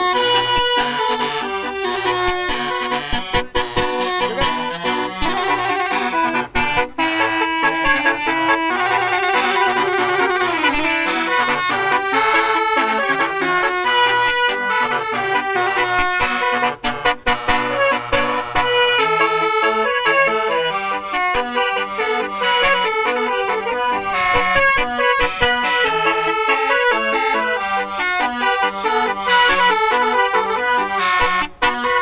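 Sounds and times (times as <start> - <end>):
multi-tone vehicle horn melody: 0.0 - 32.0.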